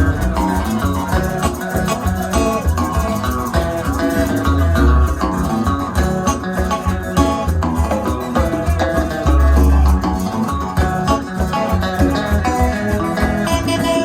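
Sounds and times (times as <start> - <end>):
deep bass line: 0.0 - 14.0
plucked guitar: 0.0 - 14.0
shaker keeping time: 0.0 - 14.0.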